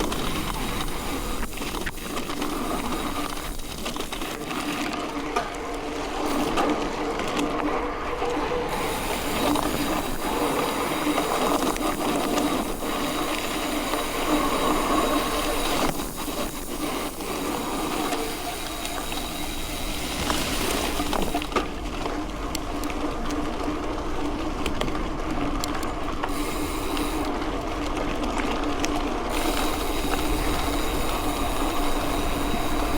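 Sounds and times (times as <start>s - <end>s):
bike and gravel rattling: 0.0s - 32.9s
bike tyres rolling on dirt: 0.0s - 32.9s.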